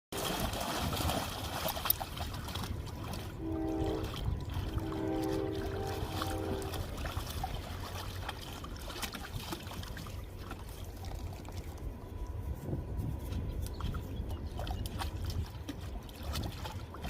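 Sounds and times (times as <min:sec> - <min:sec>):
pool water splashing and lapping: 0:00.1 - 0:12.6, 0:13.2 - 0:17.0
low rumble: 0:02.1 - 0:17.0.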